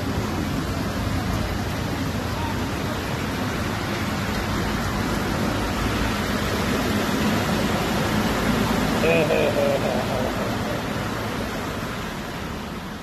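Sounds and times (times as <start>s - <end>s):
heavy rain on flooded road: 0.0s - 13.0s
vehicles driving through water: 0.0s - 13.0s.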